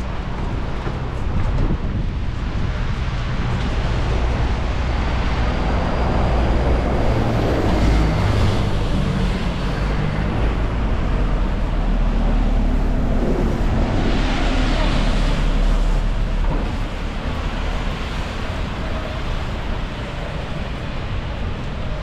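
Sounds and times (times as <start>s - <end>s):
passing vehicles: 0.0s - 22.0s
wind rumble on microphone: 0.0s - 22.0s.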